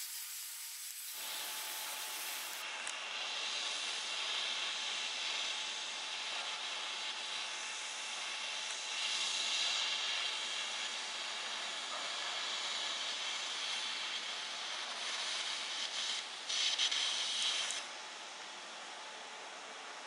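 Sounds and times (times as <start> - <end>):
hissing shipyard noise: 0.0 - 17.9.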